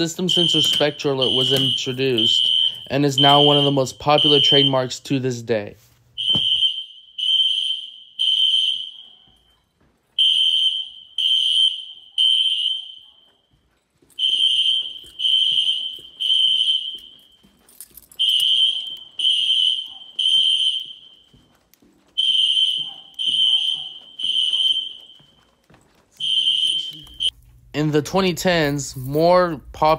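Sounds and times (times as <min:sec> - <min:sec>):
fire alarm horn beeping: 0:00.0 - 0:09.3, 0:10.2 - 0:21.6, 0:22.2 - 0:29.9.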